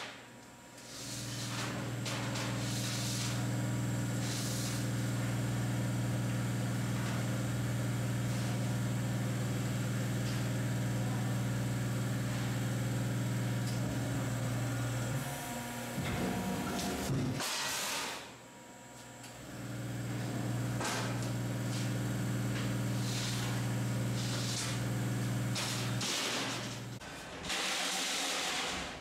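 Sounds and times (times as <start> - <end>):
machine loud mechanical hum: 0.0 - 29.0.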